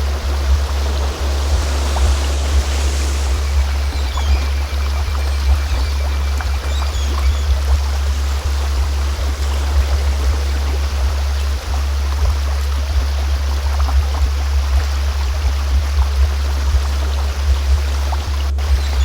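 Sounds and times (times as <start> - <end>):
deep low hum: 0.0 - 19.0
flowing stream: 0.0 - 19.0.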